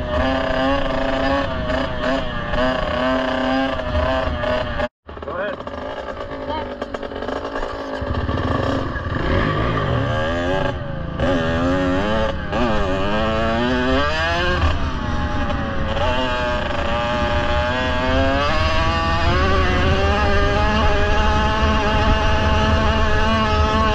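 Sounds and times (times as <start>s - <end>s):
motorbike engine revving: 0.0s - 23.9s.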